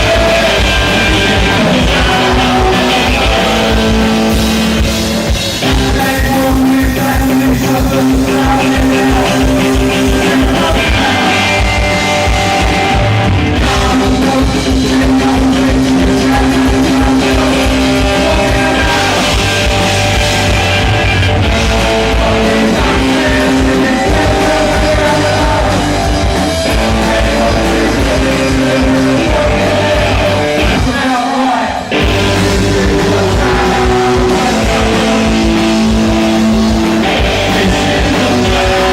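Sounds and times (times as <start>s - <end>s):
person singing: 0.0s - 20.2s, 21.5s - 38.9s
punk rock band playing: 0.0s - 38.9s.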